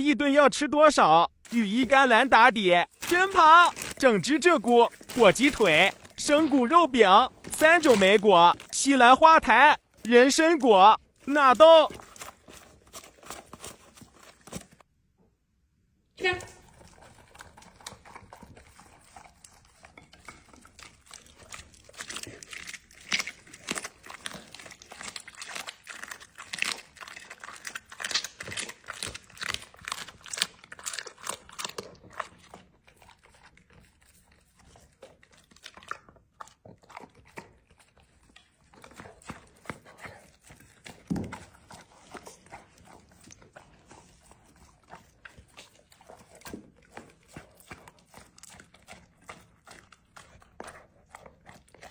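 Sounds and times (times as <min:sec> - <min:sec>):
dog chewing and crunching food: 0:01.4 - 0:14.9, 0:16.3 - 0:51.9.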